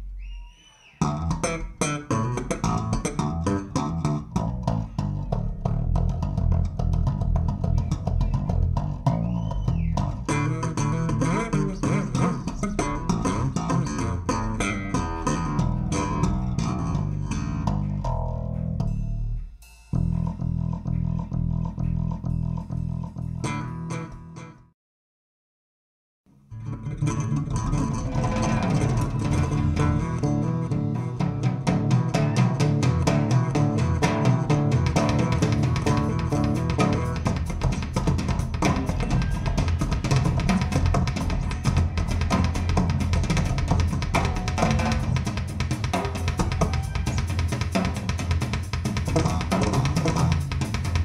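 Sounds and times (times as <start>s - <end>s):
live rock bass and drums: 1.0s - 19.0s, 27.0s - 51.0s.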